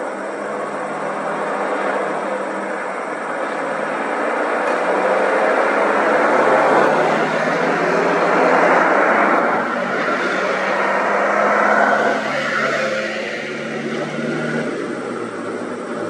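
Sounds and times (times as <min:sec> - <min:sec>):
trucks driving past: 0:00.0 - 0:16.0.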